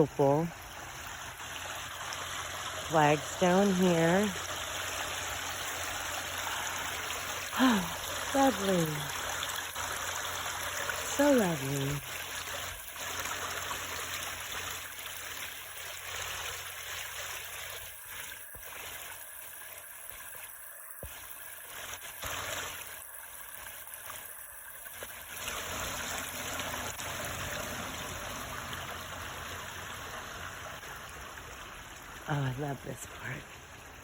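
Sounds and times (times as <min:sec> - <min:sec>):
fountain water trickling: 0:00.0 - 0:34.0.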